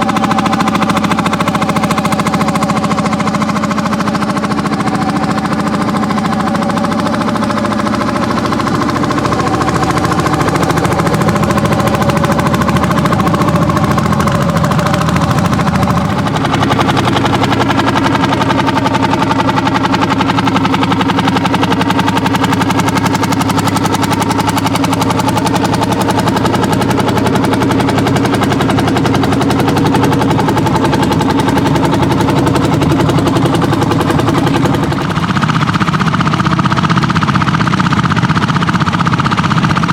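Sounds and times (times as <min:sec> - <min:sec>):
tractor engines running hard: 0:00.0 - 0:39.9.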